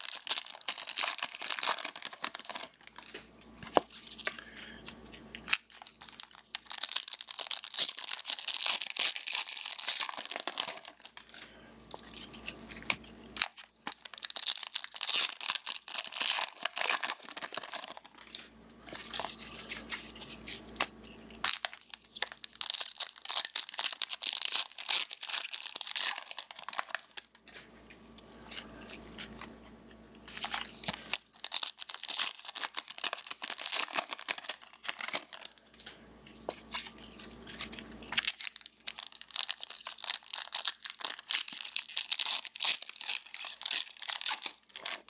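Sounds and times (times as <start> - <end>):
plastic wrapping crinkling: 0.0 - 45.0.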